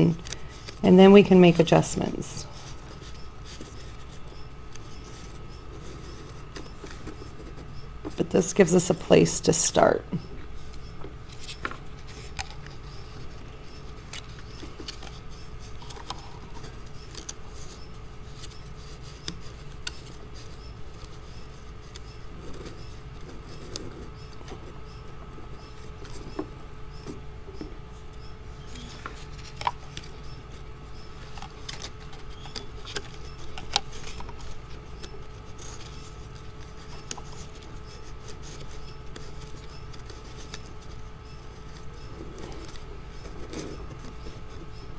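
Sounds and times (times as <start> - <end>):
steady faint hum: 0.0 - 44.9.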